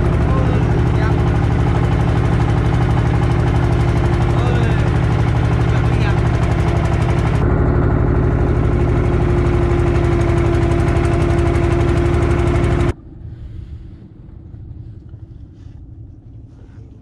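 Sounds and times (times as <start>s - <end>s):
boat engine running: 0.0s - 17.0s
low rumble: 0.0s - 17.0s.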